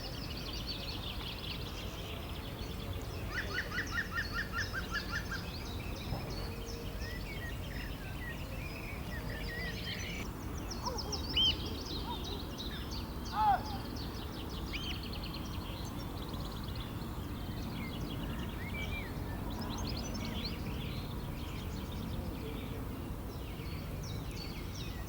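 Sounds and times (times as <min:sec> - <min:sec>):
birds chirping and singing: 0:01.5 - 0:22.8.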